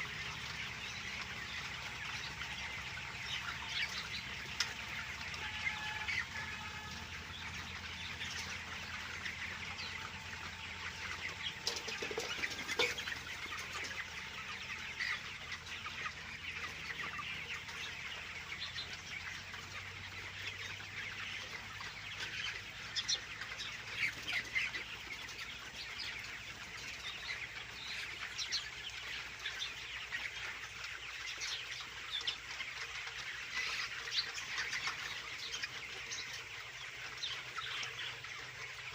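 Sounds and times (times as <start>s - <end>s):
chickens chirping and clucking: 0.0s - 38.9s.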